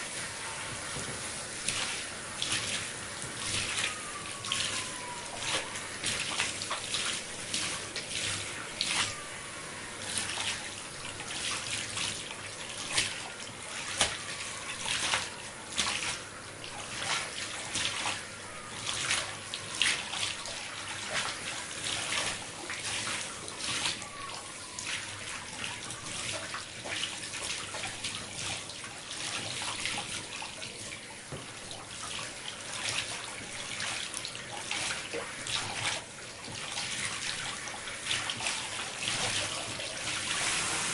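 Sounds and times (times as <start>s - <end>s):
shower water running: 0.0s - 40.9s.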